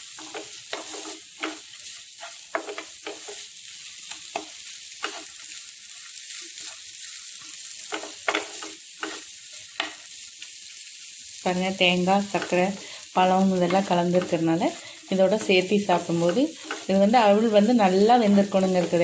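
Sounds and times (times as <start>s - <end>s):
spatula scraping frying pan: 0.0s - 10.2s, 12.2s - 19.0s
frying pan sizzling: 0.0s - 19.0s.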